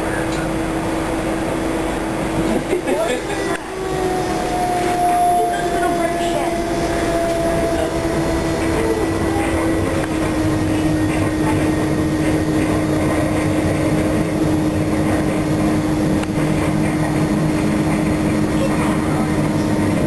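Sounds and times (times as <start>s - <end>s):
electric train hum: 0.0s - 20.0s
train rumbling on rails: 0.0s - 20.0s.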